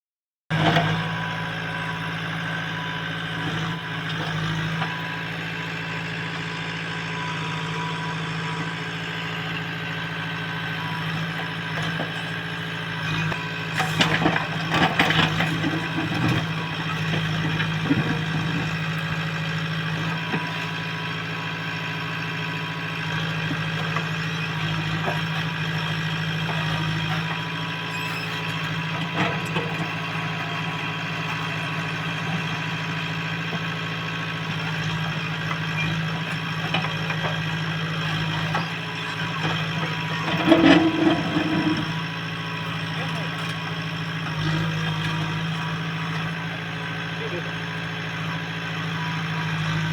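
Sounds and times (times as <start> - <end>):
diesel engine running: 0.5 - 49.9.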